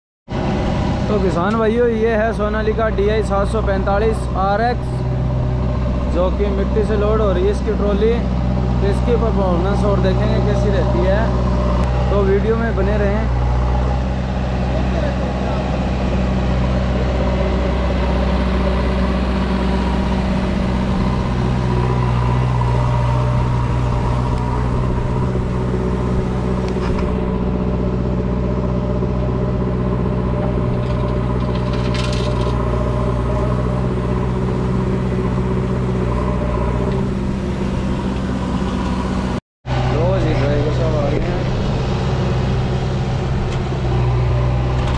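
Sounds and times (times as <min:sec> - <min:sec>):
diesel engines humming: 0:00.3 - 0:44.9.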